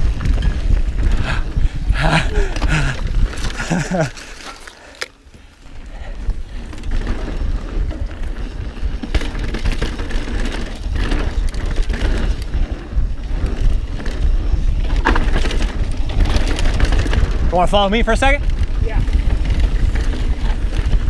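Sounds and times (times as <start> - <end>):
bike rattling over bumps: 0.0 - 21.0
bike tyre noise: 0.0 - 21.0
wind buffeting microphone: 0.0 - 21.0.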